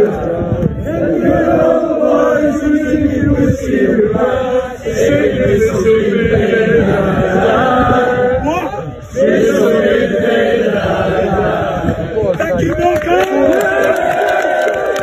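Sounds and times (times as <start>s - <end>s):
crowd singing in unison: 0.0s - 12.4s.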